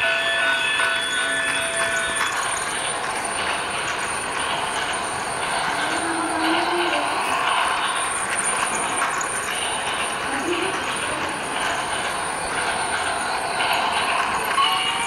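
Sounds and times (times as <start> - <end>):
toy train whirring and rattling: 0.0 - 15.0.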